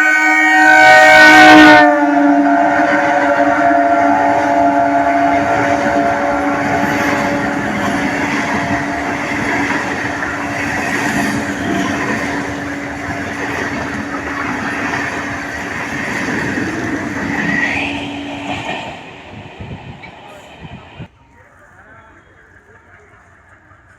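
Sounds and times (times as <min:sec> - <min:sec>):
train passing at speed: 0:00.0 - 0:23.9.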